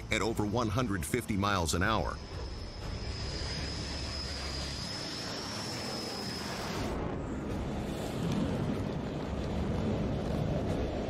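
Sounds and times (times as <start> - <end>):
jet engines whining and rumbling: 0.0 - 11.0.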